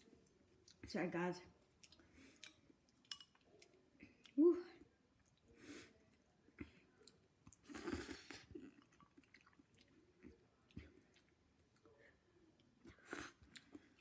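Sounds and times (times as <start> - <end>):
faint chewing of noodles: 0.0 - 0.9, 1.5 - 14.0.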